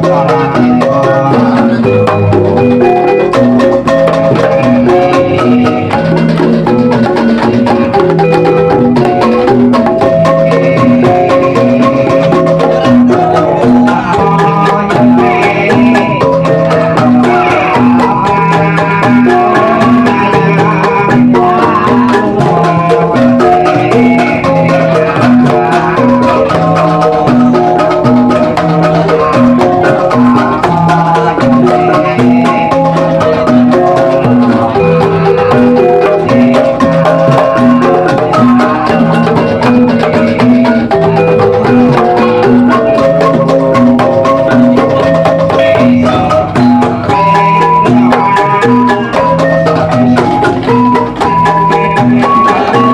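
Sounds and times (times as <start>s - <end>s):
gamelan ensemble playing: 0.0s - 52.9s.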